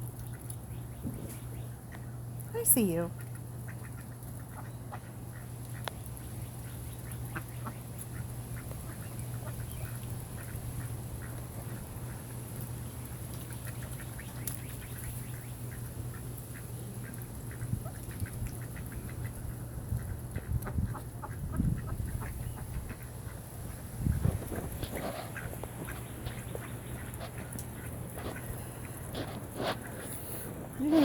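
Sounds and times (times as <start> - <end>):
ducks pecking seed clicks: 0.0 - 2.5, 3.2 - 31.0.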